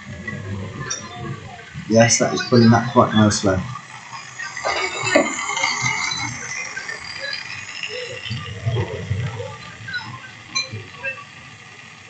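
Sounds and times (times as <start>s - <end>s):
model train running on track: 0.0s - 12.0s
rattle and squeaks of wheels: 0.3s - 11.4s.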